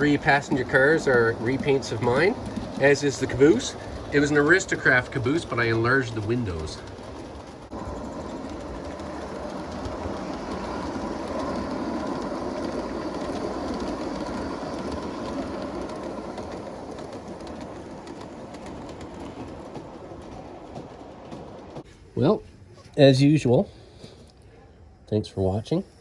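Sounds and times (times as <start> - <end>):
model train wheels rolling on track: 0.0 - 24.3.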